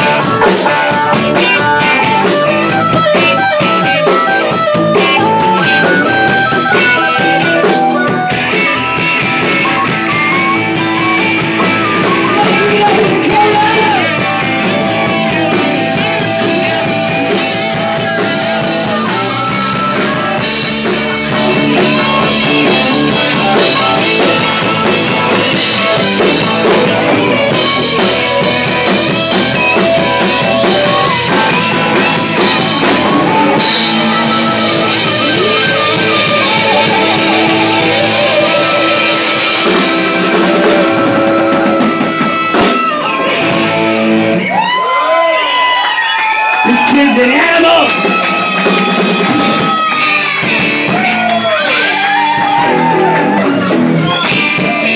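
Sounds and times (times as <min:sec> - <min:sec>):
harmonica long held notes: 0:00.0 - 0:44.2
blues-rock band playing: 0:00.0 - 0:54.9.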